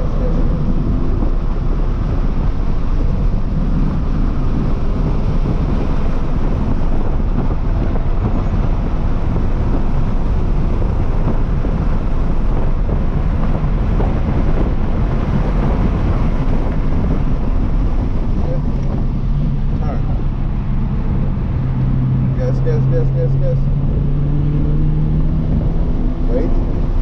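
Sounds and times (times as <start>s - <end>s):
car engine pulling at speed: 0.0s - 27.0s
road and wind noise: 0.0s - 27.0s.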